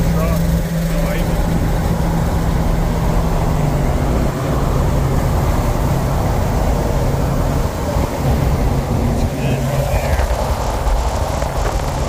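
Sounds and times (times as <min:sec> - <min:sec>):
low engine drone: 0:00.0 - 0:12.0
road and wind rumble: 0:00.0 - 0:12.0.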